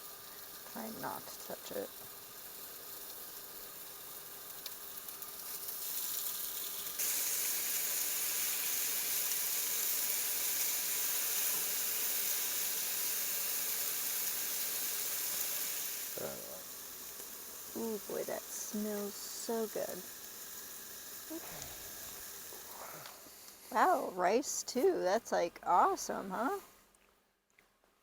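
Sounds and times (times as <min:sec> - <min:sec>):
food sizzling on a grill: 0:00.0 - 0:26.8.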